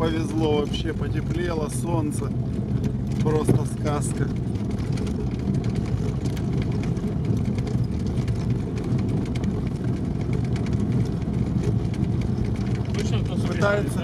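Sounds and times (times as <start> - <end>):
car engine running: 0.0 - 14.0
car knocks and rattles: 0.0 - 14.0
road noise: 0.0 - 14.0.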